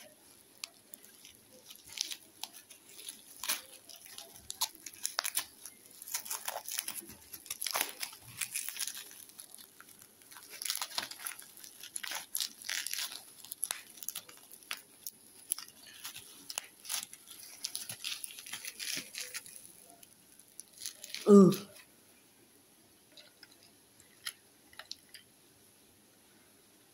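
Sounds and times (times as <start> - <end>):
plastic wrapping crinkling and tearing: 0.0 - 21.9, 23.1 - 25.2.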